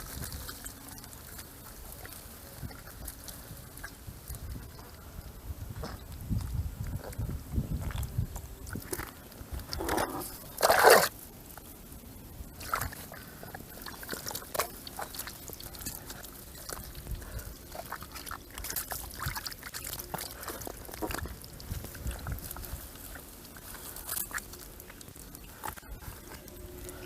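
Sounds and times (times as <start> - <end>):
small wet clicks and rustles: 0.0 - 27.0
water and mud sloshing: 0.0 - 27.0.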